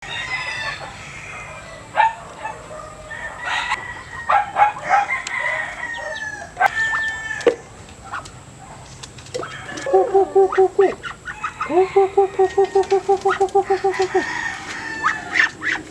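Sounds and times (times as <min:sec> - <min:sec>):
rooster crowing: 0:00.0 - 0:07.7, 0:09.4 - 0:15.8
chickens clucking: 0:00.0 - 0:15.9.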